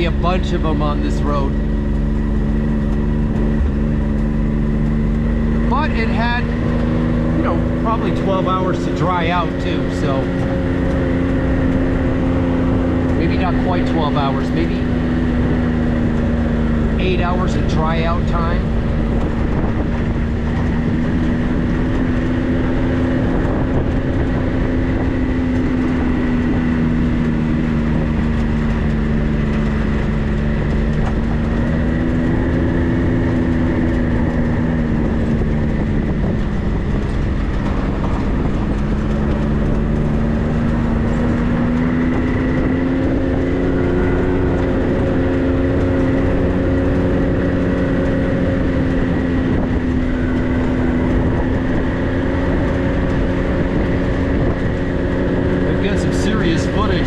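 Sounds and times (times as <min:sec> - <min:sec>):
tyres rumbling on rough road: 0:00.0 - 0:57.0
vehicle engine hum: 0:00.0 - 0:57.0.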